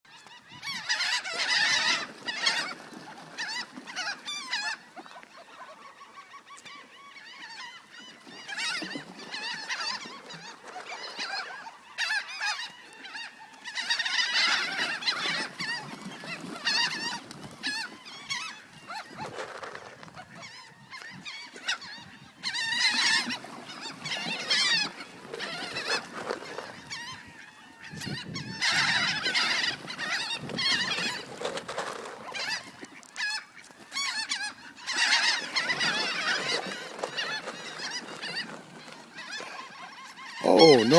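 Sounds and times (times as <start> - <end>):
birds calling harshly: 0.4 - 40.9.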